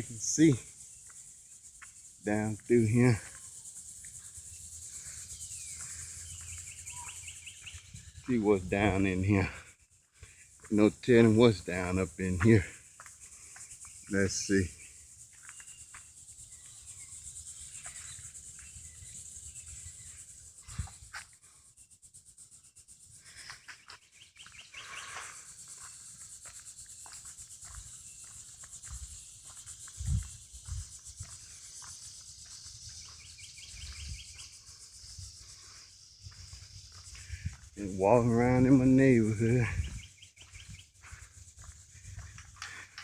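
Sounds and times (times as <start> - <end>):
birds chirping: 0.0 - 21.1, 23.1 - 43.0
high insect drone: 0.0 - 43.0.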